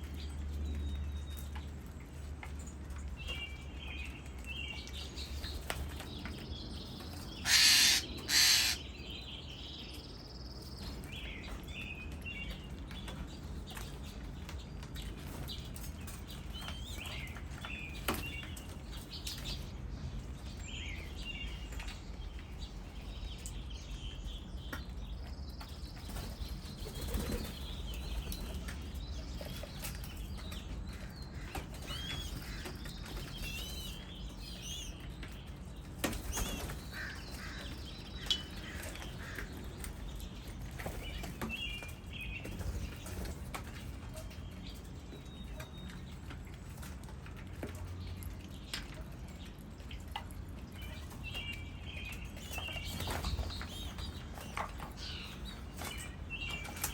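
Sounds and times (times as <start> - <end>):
songbirds chirping and whistling: 3.0 - 47.0, 50.7 - 56.9.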